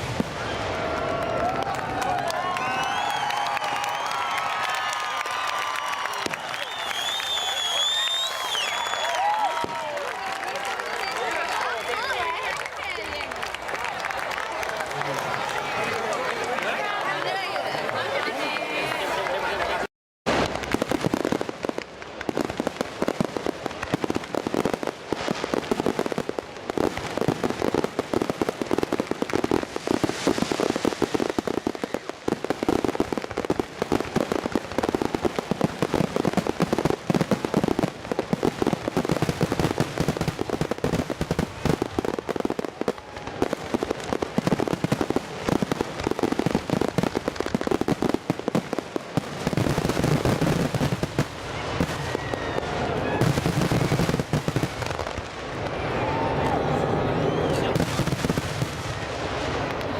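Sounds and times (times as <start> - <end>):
fireworks banging and crackling: 0.0 - 59.9.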